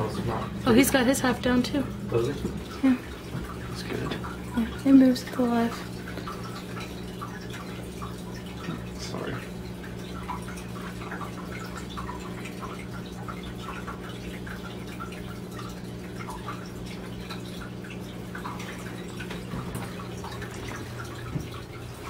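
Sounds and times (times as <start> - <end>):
water dripping: 0.0 - 22.0.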